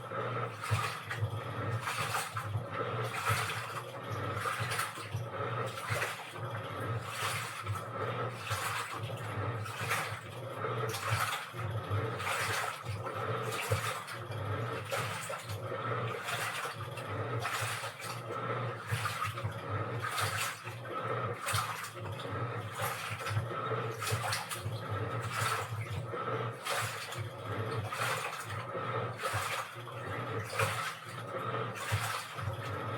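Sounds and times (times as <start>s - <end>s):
washing machine motor hum: 0.0s - 32.9s
water sloshing in drum: 0.0s - 32.9s.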